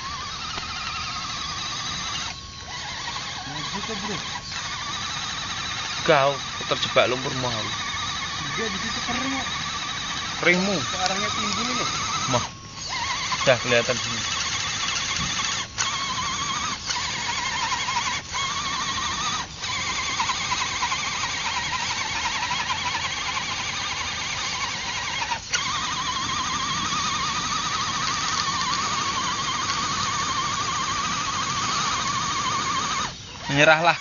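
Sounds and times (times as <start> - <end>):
electric motor and gearbox whining: 0.0 - 34.0.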